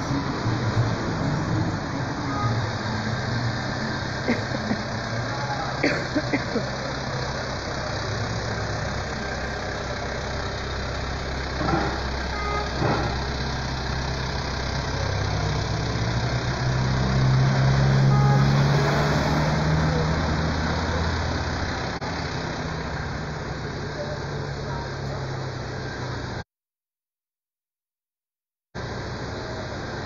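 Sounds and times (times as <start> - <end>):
vehicle engine revving: 0.0 - 26.4.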